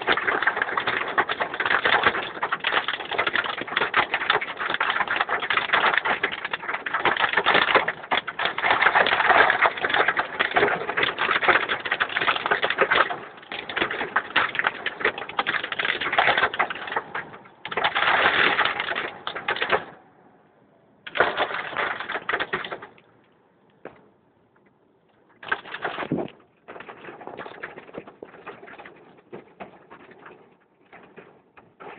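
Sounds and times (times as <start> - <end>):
hail and heavy rain clattering: 0.0 - 19.9, 21.1 - 22.9, 25.4 - 31.9.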